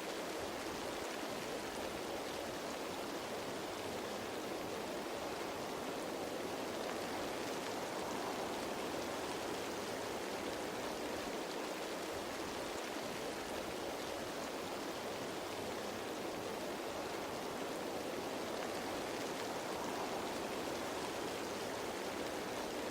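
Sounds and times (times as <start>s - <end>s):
rain pattering on leaves: 0.0s - 22.9s.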